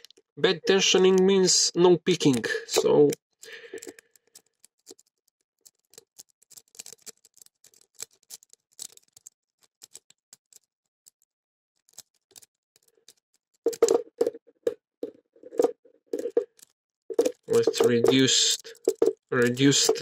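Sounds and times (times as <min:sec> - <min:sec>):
lock pick clicking and scraping: 0:02.2 - 0:14.4, 0:15.6 - 0:20.0.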